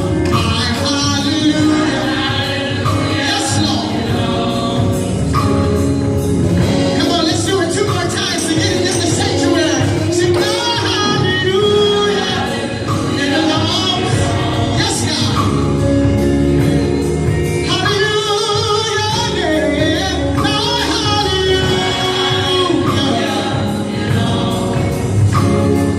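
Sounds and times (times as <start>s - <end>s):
gospel singing with accompaniment: 0.0s - 25.9s.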